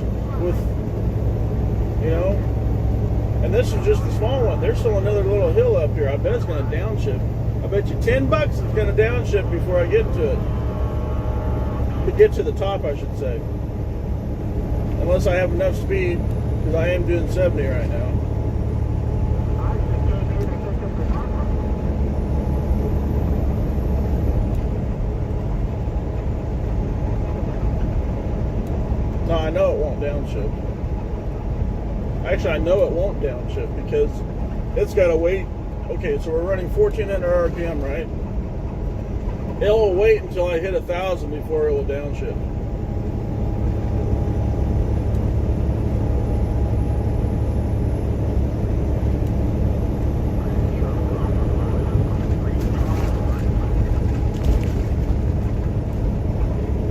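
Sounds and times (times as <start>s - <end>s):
road noise: 0.0s - 56.9s
truck engine rumble: 0.0s - 56.9s.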